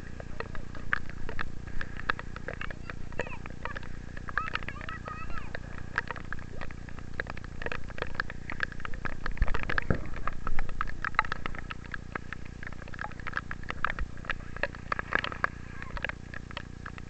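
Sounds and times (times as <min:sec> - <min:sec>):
heavy rain tapping: 0:00.0 - 0:17.0
low steady rumble: 0:00.0 - 0:17.0.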